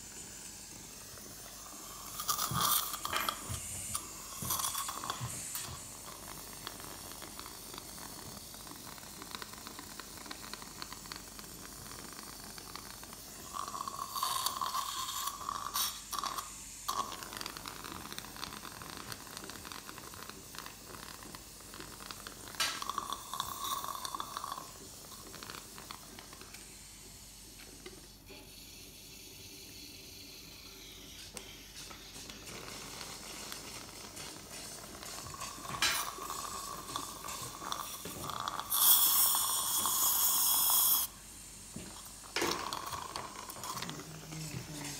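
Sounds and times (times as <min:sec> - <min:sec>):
suction hissing: 0:00.0 - 0:44.9.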